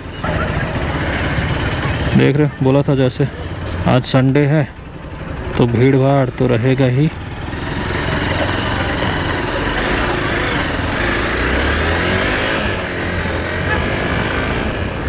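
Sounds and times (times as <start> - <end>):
motorcycle engine accelerating: 0.0 - 15.0
road and wind noise: 0.0 - 15.0.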